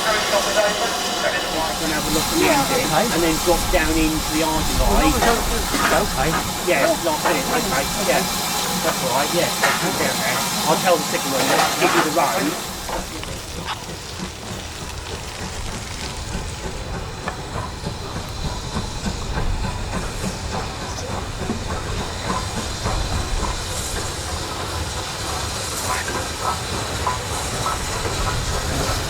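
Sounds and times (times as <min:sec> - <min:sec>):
steam hiss: 0:00.0 - 0:29.0
steam train rumble: 0:00.0 - 0:29.0
wheels clicking over rails: 0:00.0 - 0:29.0.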